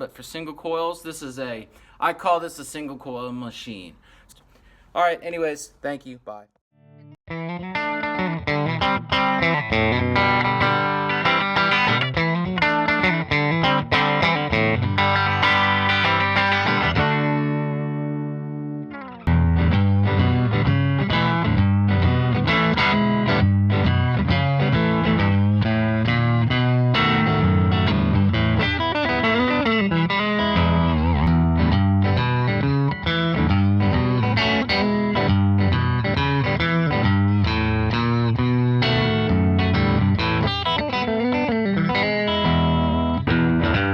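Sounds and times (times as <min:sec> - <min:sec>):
overdriven electric guitar: 0:07.3 - 0:43.9.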